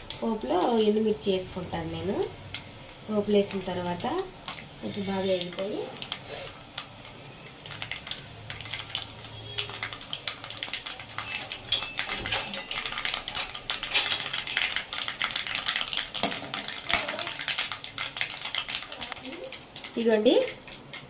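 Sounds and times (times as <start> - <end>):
seeds spluttering in hot oil: 0.0 - 21.0.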